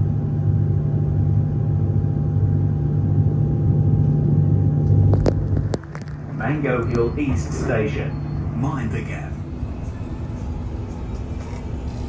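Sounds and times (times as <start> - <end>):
faint steady whine: 0.0 - 12.0
train low rumble: 0.0 - 12.0.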